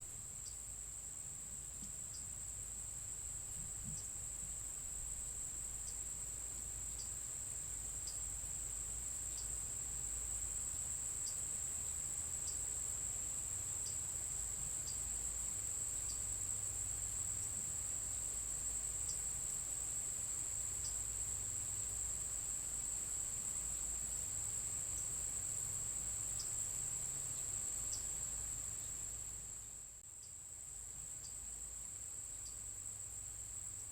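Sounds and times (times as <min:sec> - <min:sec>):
insects trilling: 0:00.2 - 0:33.9.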